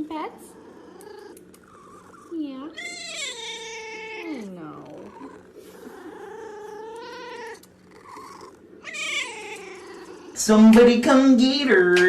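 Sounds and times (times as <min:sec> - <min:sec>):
cat meowing: 0:00.6 - 0:10.4.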